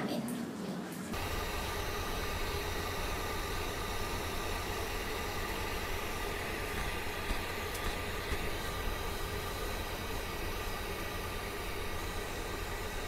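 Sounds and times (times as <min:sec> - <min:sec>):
blow dryer running: 0:01.1 - 0:13.0.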